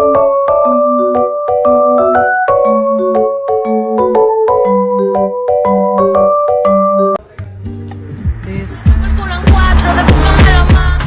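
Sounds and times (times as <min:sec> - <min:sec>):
bouncy mallet percussion music: 0:00.0 - 0:11.0.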